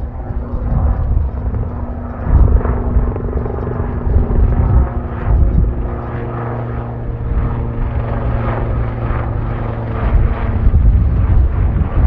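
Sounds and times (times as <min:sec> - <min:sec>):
jet engines droning: 0:00.0 - 0:12.0
wind buffeting microphone: 0:00.0 - 0:12.0.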